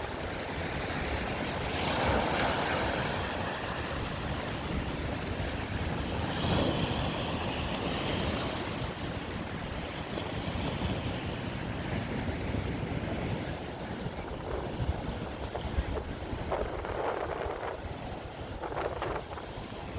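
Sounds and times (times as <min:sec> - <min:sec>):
lake waves breaking on shore: 0:00.0 - 0:19.9
wind buffeting microphone: 0:00.0 - 0:19.9.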